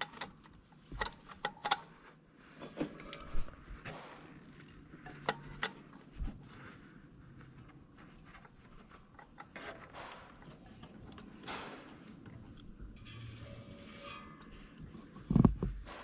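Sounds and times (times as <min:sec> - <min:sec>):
light scraping and rustling: 0:01.9 - 0:11.4, 0:12.1 - 0:16.0.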